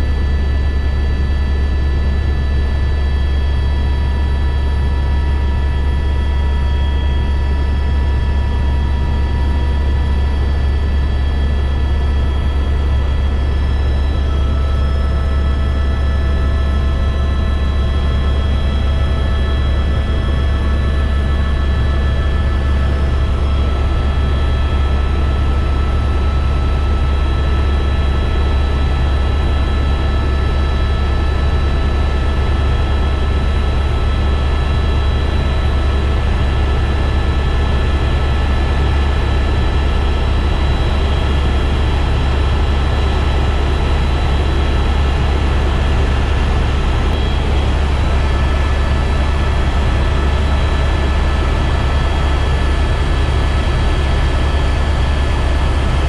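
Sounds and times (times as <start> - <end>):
helicopter rotor and engine drone: 0.0 - 56.0
high multi-tone whine: 2.3 - 56.0.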